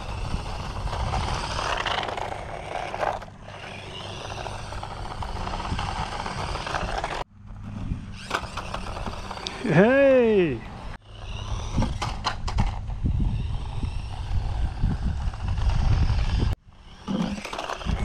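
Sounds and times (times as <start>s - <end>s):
electric motor whining: 0.0s - 7.2s, 8.0s - 18.0s
tyres scraping on concrete: 0.0s - 7.2s, 8.2s - 9.8s, 10.6s - 18.0s.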